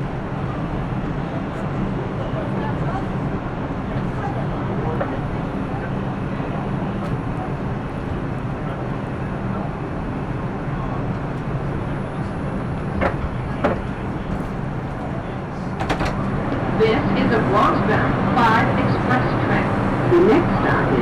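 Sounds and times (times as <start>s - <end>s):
passenger and platform noise: 0.0s - 21.0s
subway car humming: 0.0s - 21.0s.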